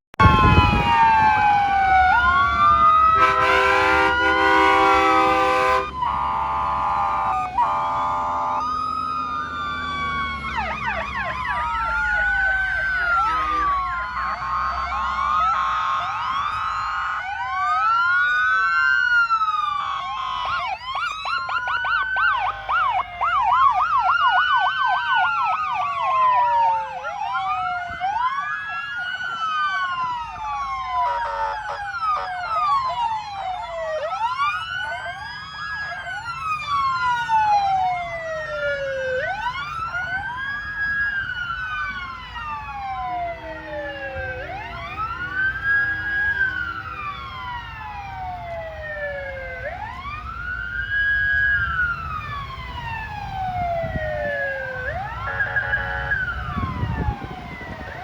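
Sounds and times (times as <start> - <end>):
sirens wailing: 0.2 - 58.0.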